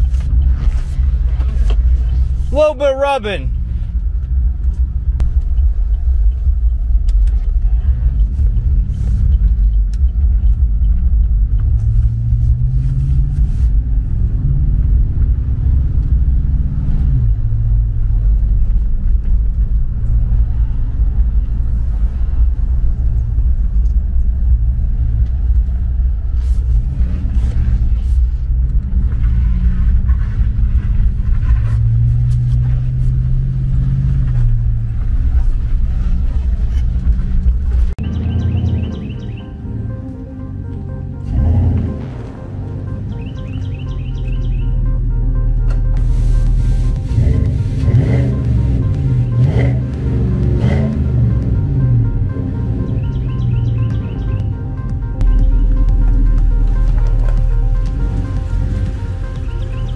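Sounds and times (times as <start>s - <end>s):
road rumble: 0.0s - 59.9s
truck engine: 0.0s - 59.9s.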